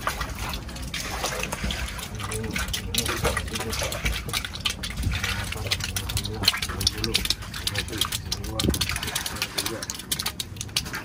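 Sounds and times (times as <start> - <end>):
low steady rumble: 0.0 - 11.0
water splashing and gushing: 0.0 - 11.0.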